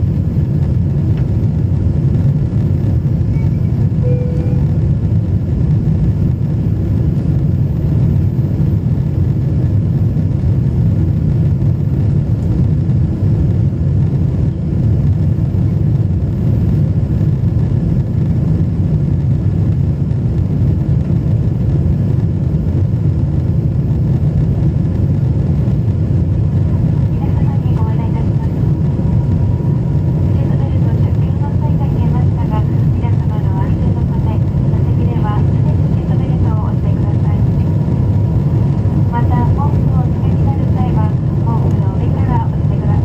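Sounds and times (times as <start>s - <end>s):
jet engines and rushing air: 0.0s - 43.0s.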